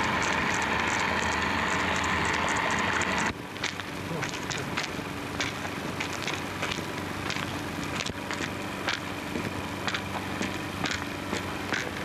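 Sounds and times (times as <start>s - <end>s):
crackles and pops: 0.0s - 12.0s
film soundtrack hiss: 0.0s - 12.0s
low hum: 0.0s - 12.0s.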